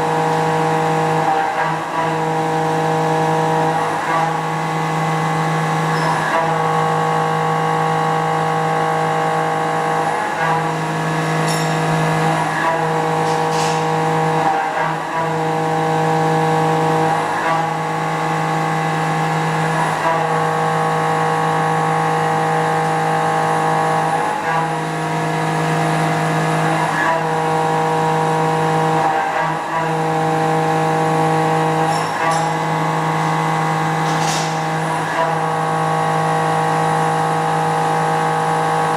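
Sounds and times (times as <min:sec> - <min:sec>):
milling machine cutting tone: 0:00.0 - 0:38.9.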